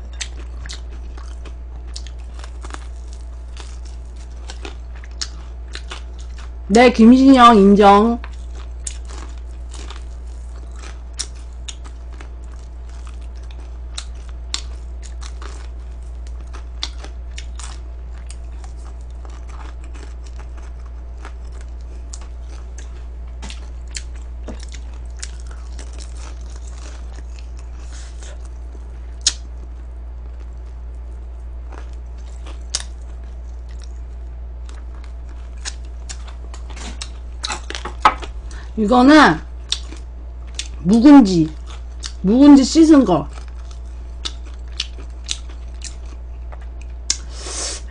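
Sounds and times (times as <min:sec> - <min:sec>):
chewing and crunching food: 0:00.0 - 0:47.4
low electrical hum: 0:00.0 - 0:47.9.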